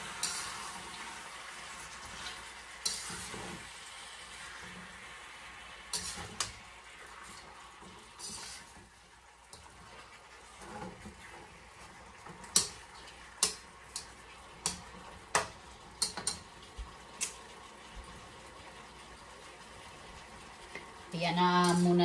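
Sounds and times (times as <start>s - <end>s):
chicken sizzling: 0.0s - 22.0s.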